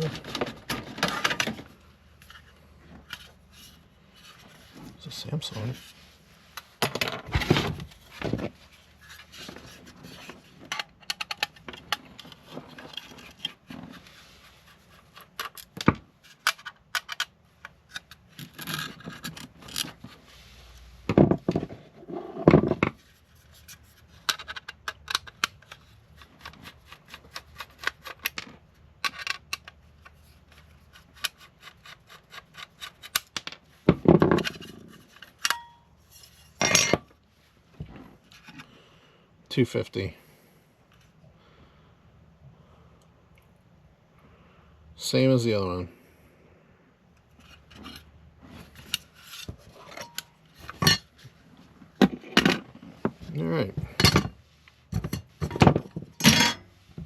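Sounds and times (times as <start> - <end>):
rubbing and scraping on computer parts: 0.0 - 38.8, 47.2 - 57.0.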